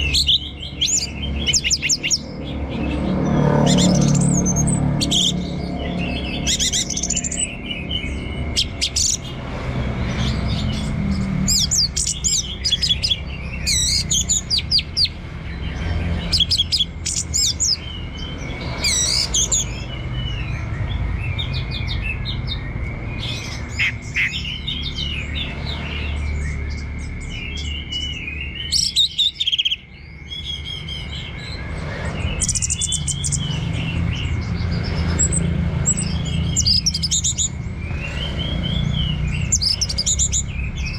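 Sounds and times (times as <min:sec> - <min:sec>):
bird singing warbling phrases: 0:00.0 - 0:40.9.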